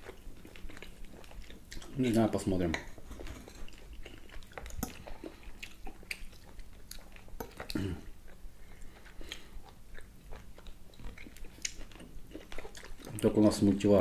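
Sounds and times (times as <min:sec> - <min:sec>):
wet chewing mouth clicks: 0:00.0 - 0:13.2.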